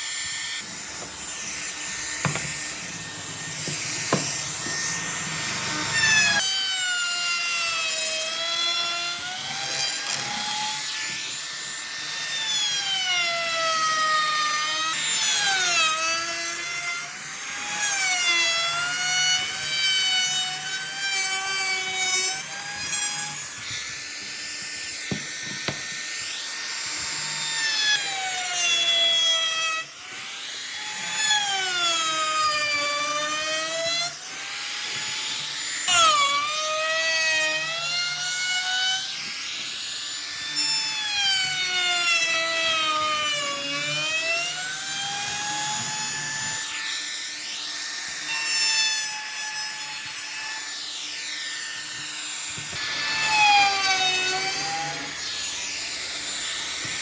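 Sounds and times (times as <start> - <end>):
power tool motor whining: 0.0 - 57.0.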